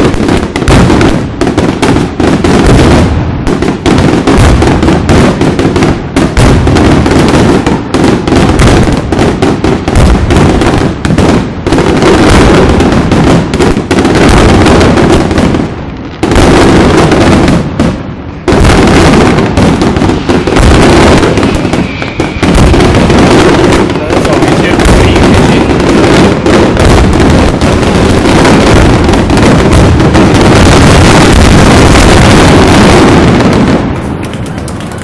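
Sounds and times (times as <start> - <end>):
fireworks bursting with loud bangs: 0.0 - 35.0.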